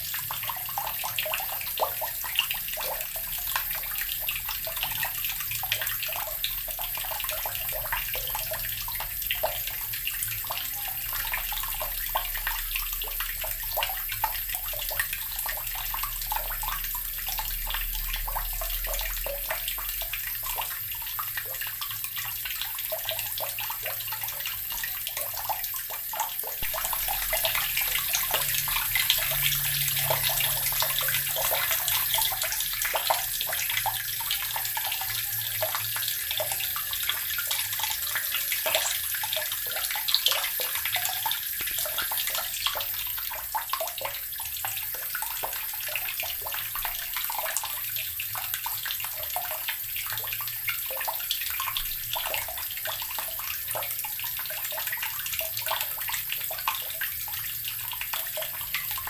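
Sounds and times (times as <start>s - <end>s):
tap water running into basin: 0.0s - 59.0s.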